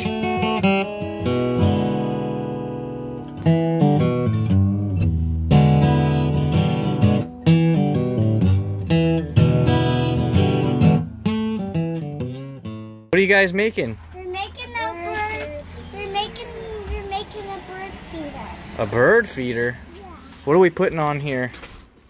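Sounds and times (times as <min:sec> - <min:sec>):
acoustic guitar music: 0:00.0 - 0:21.7.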